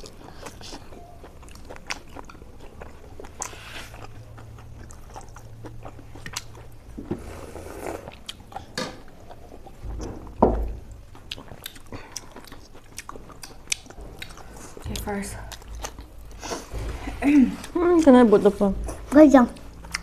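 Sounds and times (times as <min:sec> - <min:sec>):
chewing and crunching: 0:00.0 - 0:20.0.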